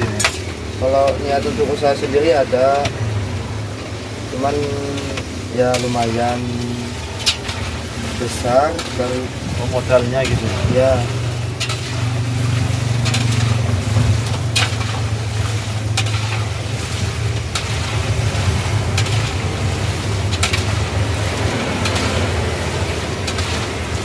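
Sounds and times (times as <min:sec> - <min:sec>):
metal skimmer scraping a wok: 0:00.0 - 0:03.0, 0:03.7 - 0:24.0
food deep-frying in oil: 0:00.0 - 0:24.0.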